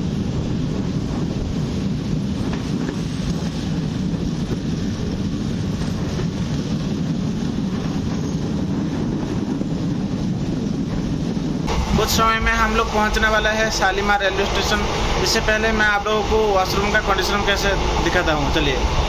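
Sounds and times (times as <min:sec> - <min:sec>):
train rumble and rush: 0:00.0 - 0:19.0.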